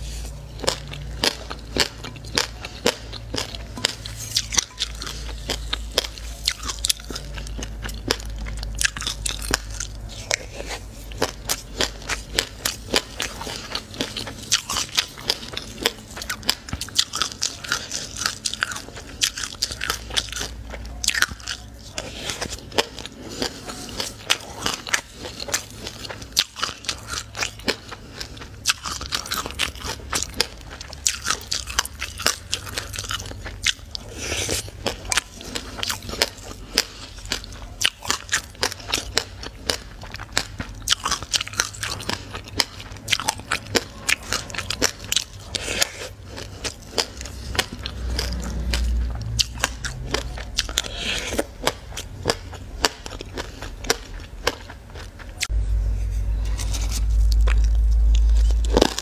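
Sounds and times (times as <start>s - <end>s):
crunchy chewing of seeds: 0.0s - 59.0s
steady low hum: 0.0s - 59.0s.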